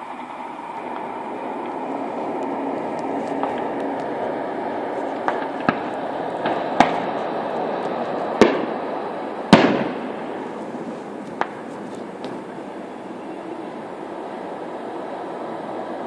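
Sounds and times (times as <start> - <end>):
steady background noise: 0.0 - 16.0
fireworks bangs with echo: 0.6 - 13.7.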